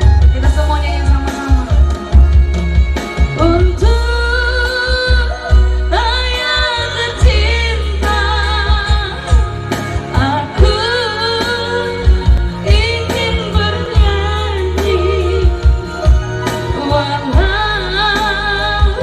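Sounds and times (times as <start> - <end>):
electronic keyboards with pulsing bass: 0.0 - 19.0
woman singing into a microphone: 0.0 - 19.0.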